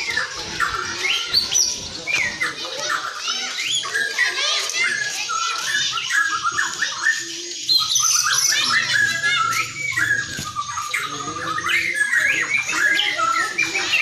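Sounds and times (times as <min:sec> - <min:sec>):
bird singing varied whistled notes: 0:00.0 - 0:14.0.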